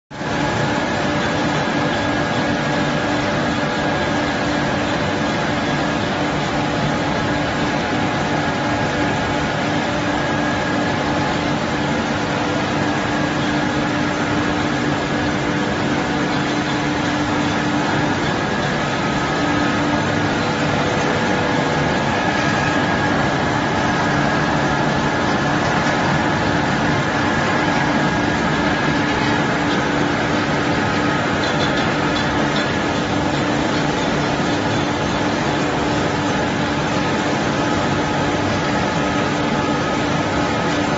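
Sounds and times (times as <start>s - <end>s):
high mechanical whine: 0.1s - 40.9s
pellet mills mechanical din: 0.1s - 40.9s
steady low hum: 0.1s - 40.9s.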